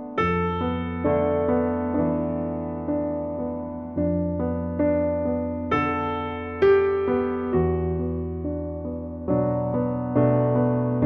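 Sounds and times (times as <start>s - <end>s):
soft piano notes: 0.0s - 11.0s.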